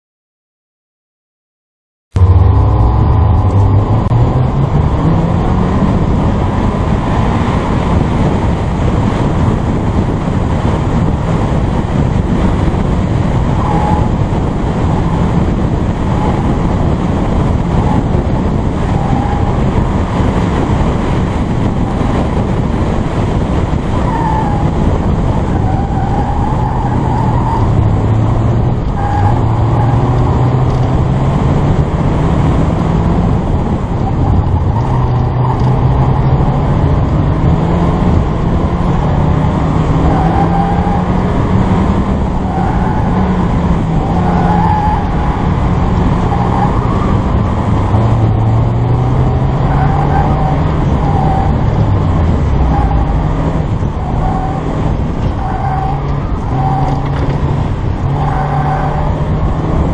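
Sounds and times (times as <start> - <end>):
car engine revving: 2.1 - 59.9
road and wind noise: 2.1 - 59.9.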